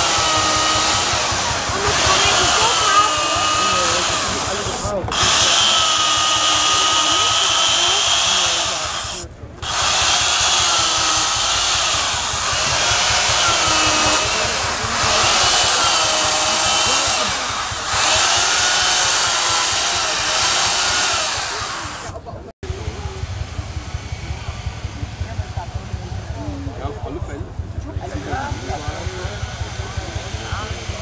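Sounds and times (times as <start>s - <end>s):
chainsaw cutting wood: 0.0s - 22.4s, 28.0s - 31.0s.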